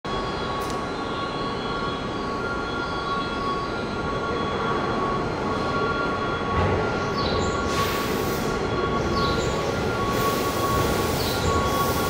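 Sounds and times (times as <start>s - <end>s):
electric train rolling: 0.1s - 12.0s.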